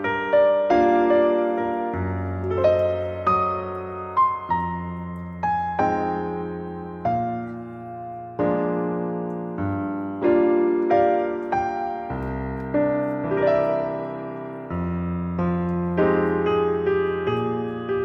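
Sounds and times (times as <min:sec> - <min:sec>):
slow piano notes and chords: 0:00.0 - 0:18.0.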